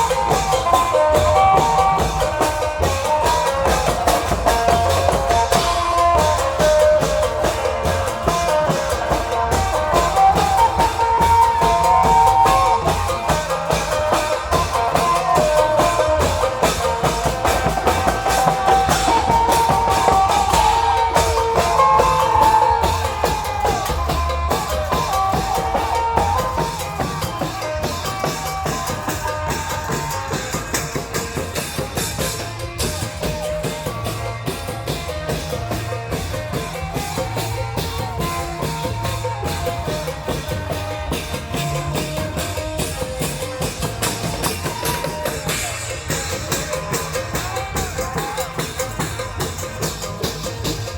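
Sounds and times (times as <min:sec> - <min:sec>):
steady drumming: 0:00.0 - 0:50.9.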